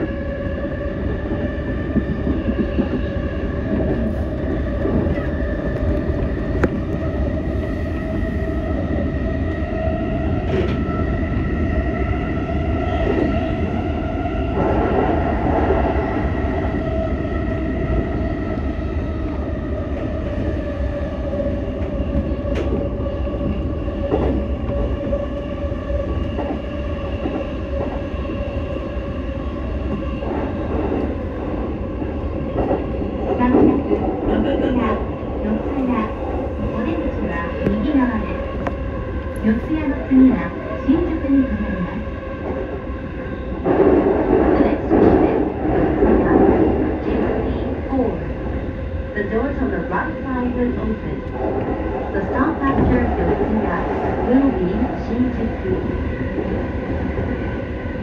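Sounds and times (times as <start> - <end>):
rumble of wheels on rail: 0.0 - 58.0.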